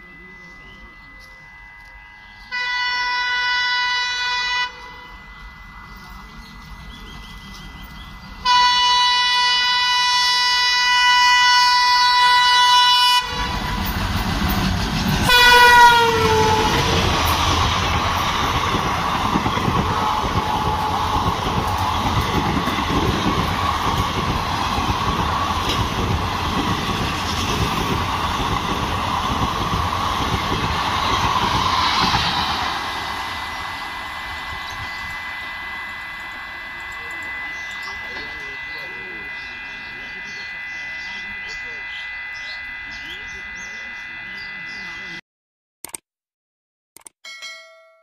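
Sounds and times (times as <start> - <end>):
locomotive horn: 0.0 - 6.1, 8.4 - 14.0, 15.1 - 45.2
train coaches rumbling past: 0.0 - 45.2.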